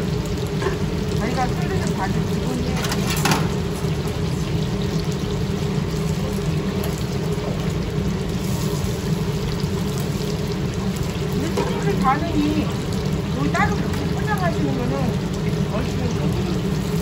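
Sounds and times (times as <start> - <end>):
oil bubbling in deep fryer: 0.0 - 17.0.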